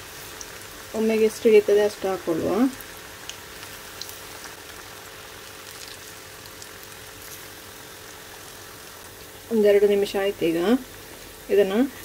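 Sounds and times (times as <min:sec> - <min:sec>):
deep-frying sizzle with crackles: 0:00.0 - 0:12.0.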